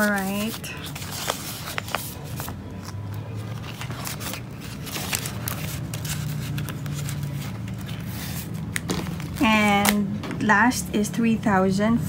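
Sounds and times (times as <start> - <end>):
banknotes and plastic pouches rustling: 0.0 - 10.1.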